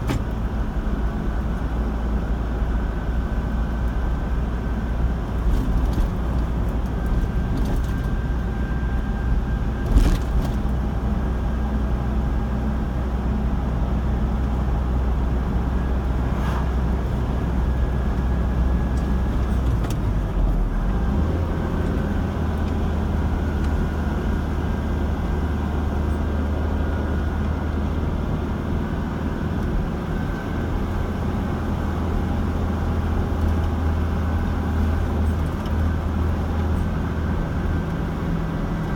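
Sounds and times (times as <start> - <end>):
car engine drone: 0.0 - 38.9.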